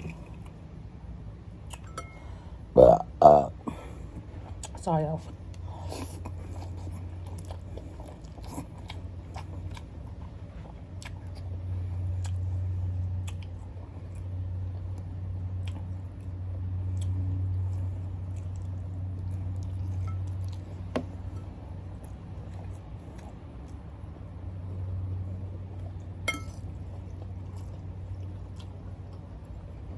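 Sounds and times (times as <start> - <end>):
person chewing noodles: 0.0 - 0.7, 1.6 - 4.8, 5.4 - 29.9.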